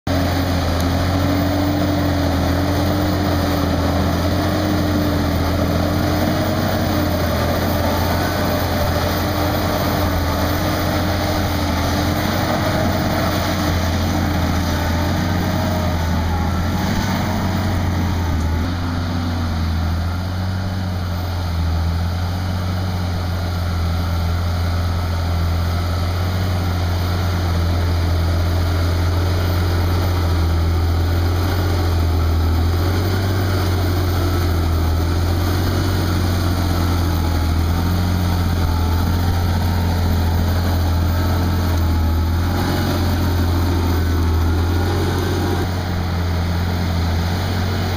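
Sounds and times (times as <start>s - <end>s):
tractor diesel engine droning: 0.0s - 47.9s.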